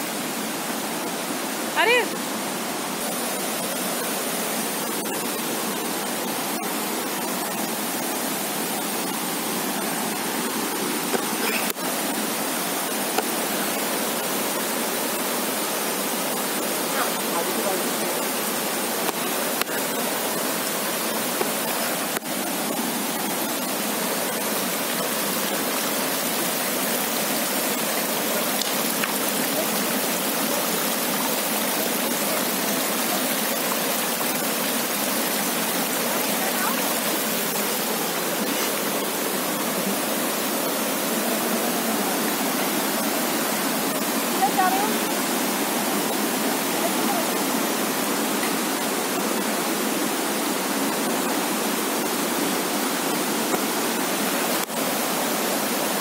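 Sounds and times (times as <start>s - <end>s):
floodwater rushing over rocks: 0.0s - 56.0s.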